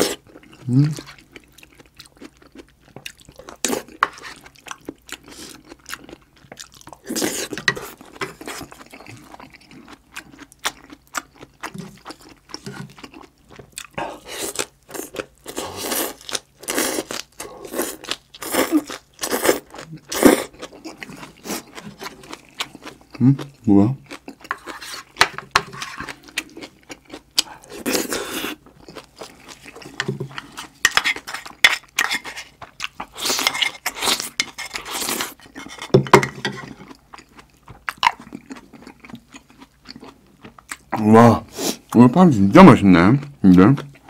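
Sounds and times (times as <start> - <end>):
chewing and crunching food: 0.0 - 44.0.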